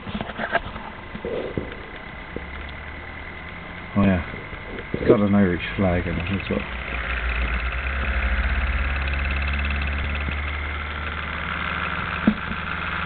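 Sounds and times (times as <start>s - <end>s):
magnet motor buzzing hum: 0.0s - 13.0s.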